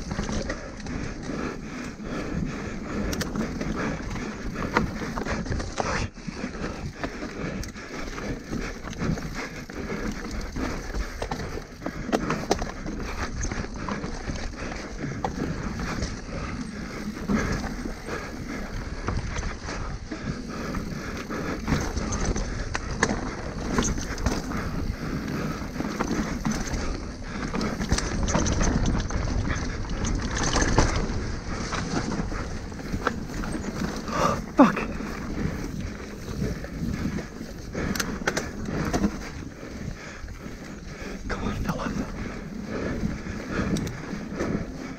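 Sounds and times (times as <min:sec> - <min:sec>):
bike rattling and knocking: 0:00.0 - 0:44.9.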